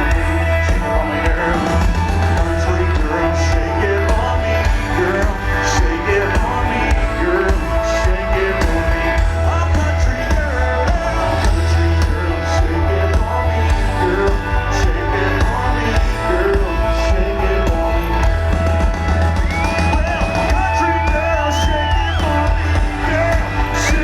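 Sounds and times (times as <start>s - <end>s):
live country rock band: 0.0s - 24.0s.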